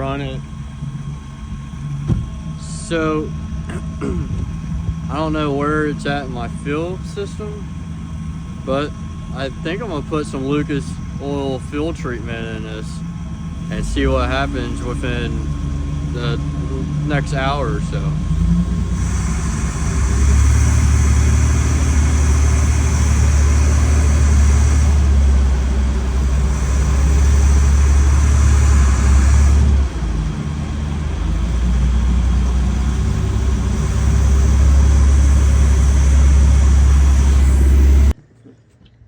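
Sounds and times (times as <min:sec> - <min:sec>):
boat motor running: 0:00.0 - 0:38.5.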